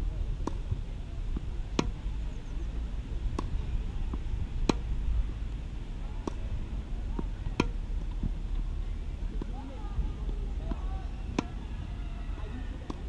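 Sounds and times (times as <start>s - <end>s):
low rumble: 0.0s - 13.0s
tennis ball struck and bouncing: 0.4s - 2.2s, 3.2s - 11.7s, 12.8s - 13.0s.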